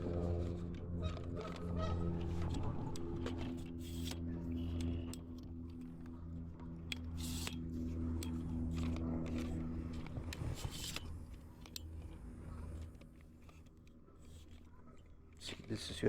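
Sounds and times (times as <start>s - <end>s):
low hum: 0.0s - 15.5s
fishing gear being handled: 0.6s - 16.0s.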